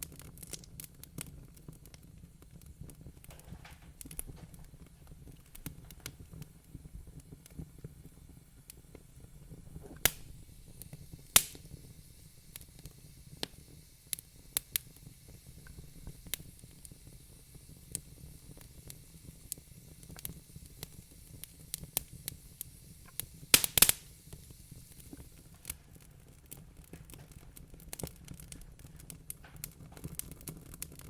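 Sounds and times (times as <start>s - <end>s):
wood fire crackling in fireplace: 0.0s - 31.0s.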